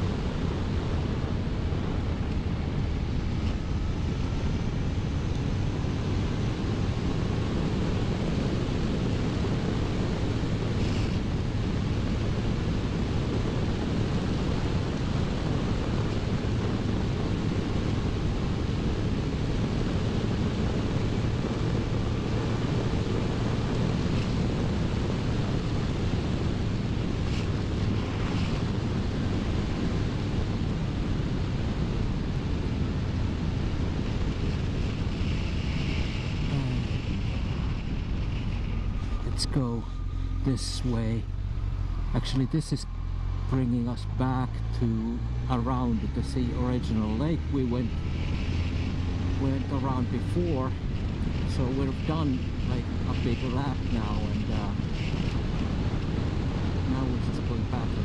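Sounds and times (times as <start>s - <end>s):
motorcycle engine droning: 0.0s - 58.0s
wind rushing over microphone: 0.0s - 58.0s.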